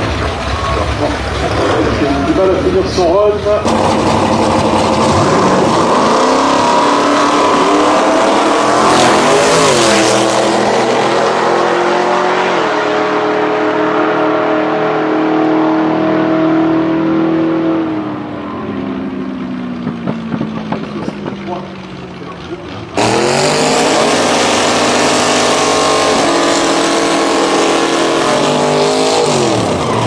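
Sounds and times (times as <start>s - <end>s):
drag race car engine running hard: 0.0s - 30.0s.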